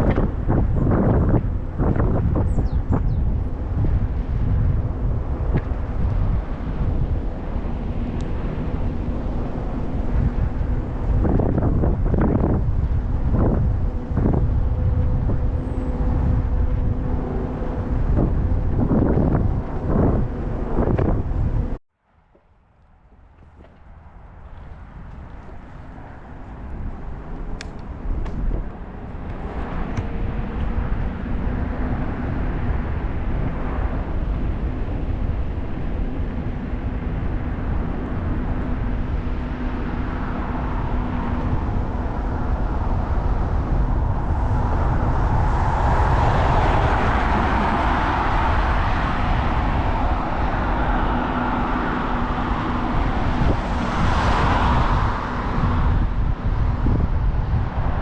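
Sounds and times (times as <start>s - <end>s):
wind rumbling on microphone: 0.0s - 58.0s
road traffic passing: 3.5s - 21.6s, 22.2s - 58.0s.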